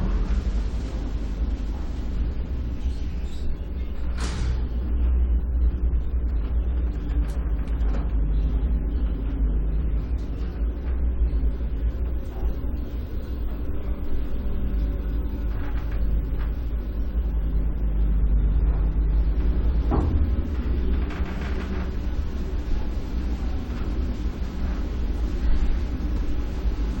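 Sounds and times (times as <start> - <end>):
elevator car rumbling: 0.0 - 27.0
faint hum: 0.0 - 27.0.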